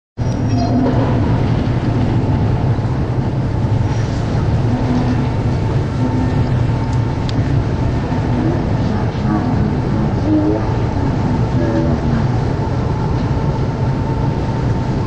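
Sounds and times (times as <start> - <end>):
faint humming tones: 0.2 - 15.0
low roar of metro station: 0.2 - 15.0.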